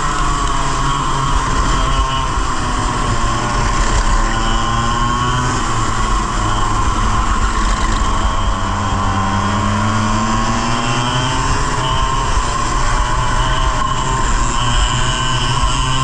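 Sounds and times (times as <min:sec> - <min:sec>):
two-stroke kart engine revving: 0:00.0 - 0:16.0.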